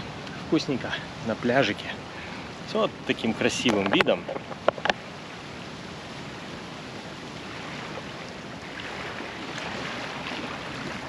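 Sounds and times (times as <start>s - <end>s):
small waves lapping on pebbles: 0.0s - 11.0s
wind: 0.0s - 11.0s.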